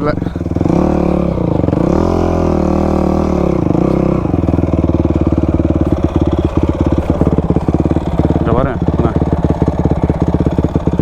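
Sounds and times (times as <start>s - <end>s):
dirt bike engine revving and idling: 0.0s - 11.0s.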